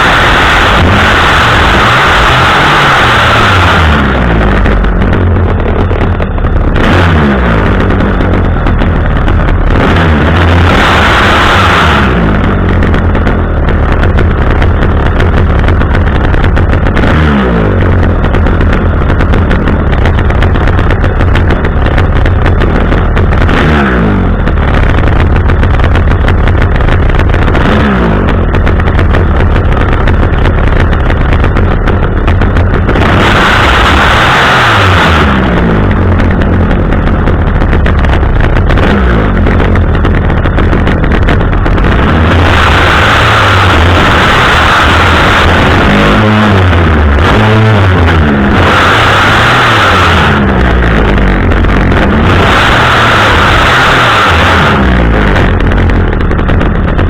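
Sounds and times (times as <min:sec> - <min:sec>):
chainsaw running at high speed: 0:00.0 - 0:57.0.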